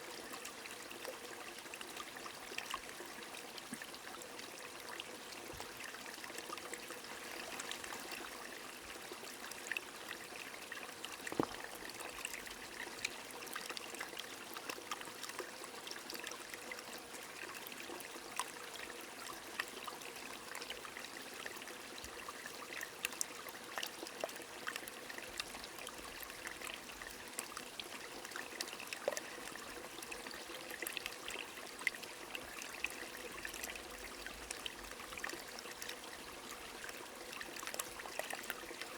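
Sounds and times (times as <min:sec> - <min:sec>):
small stream trickling: 0:00.0 - 0:38.9.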